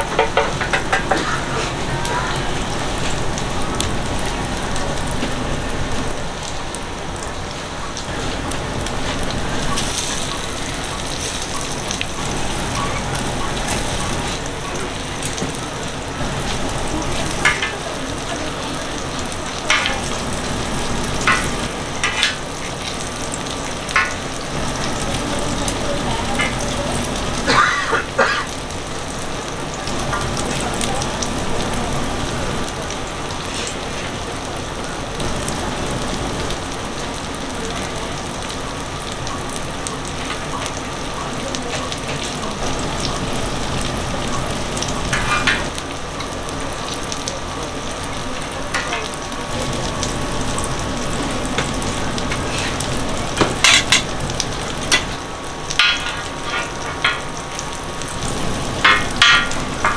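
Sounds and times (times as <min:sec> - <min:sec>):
oil sizzling on a griddle: 0:00.0 - 0:59.9.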